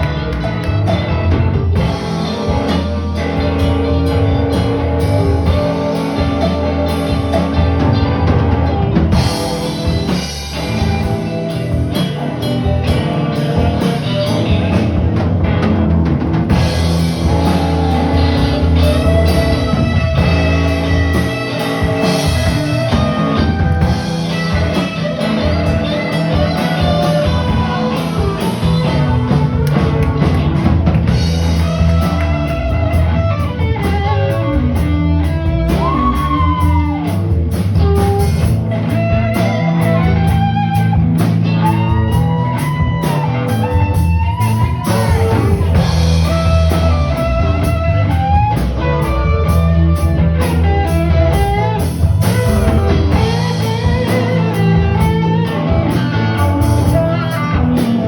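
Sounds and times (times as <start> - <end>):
bending lead guitar line: 0.0 - 58.0
live rock band playing: 0.0 - 58.0.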